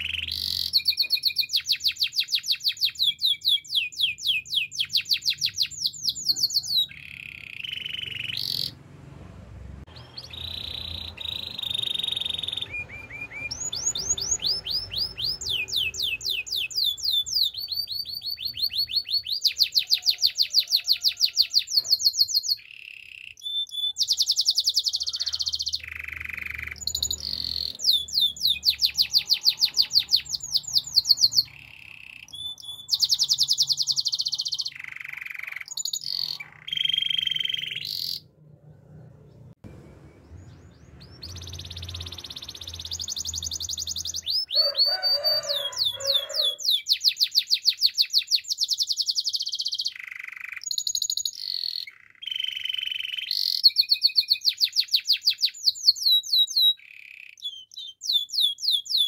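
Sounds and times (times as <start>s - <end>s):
canary singing trills: 0.0s - 9.0s, 9.9s - 59.0s.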